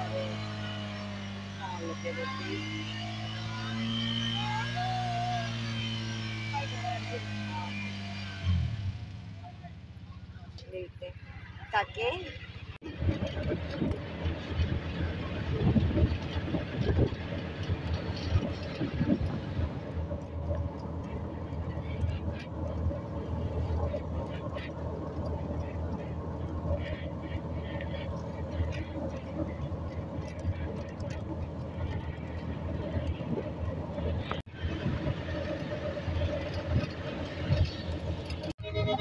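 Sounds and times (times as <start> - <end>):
rickshaw engine drone: 0.0 - 39.0
road noise rushing: 0.0 - 39.0.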